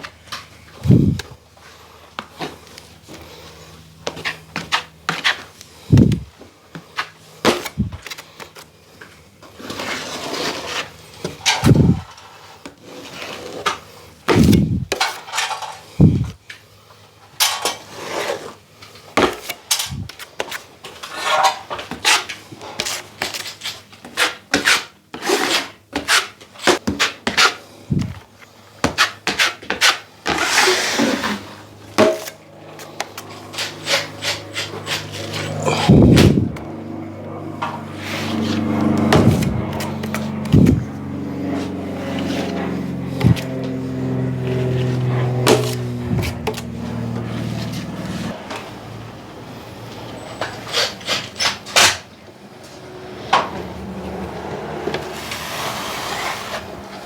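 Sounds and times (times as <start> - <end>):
drywall knives scraping and clacking: 0.0 - 16.7, 17.3 - 36.7, 37.6 - 48.6, 50.3 - 52.2, 54.6 - 57.0.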